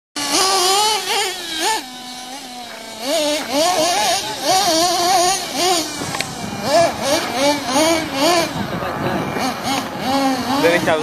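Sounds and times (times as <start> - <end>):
toy nitro engine revving: 0.2 - 11.0.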